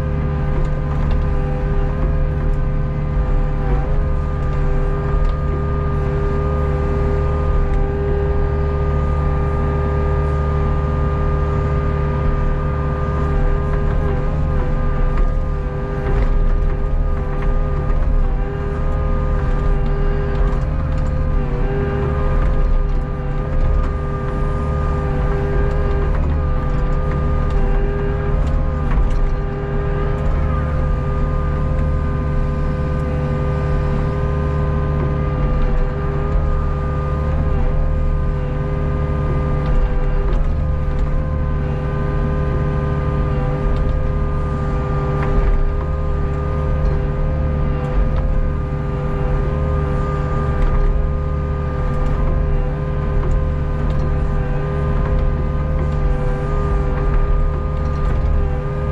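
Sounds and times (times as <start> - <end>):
excavator diesel engine running: 0.0 - 58.9
steady whining tones: 0.0 - 58.9.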